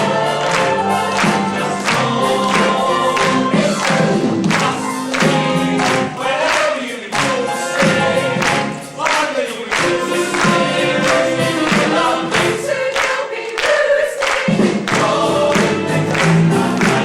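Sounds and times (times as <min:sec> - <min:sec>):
cast singing in chorus: 0:00.0 - 0:17.0
musical backing: 0:00.0 - 0:17.0.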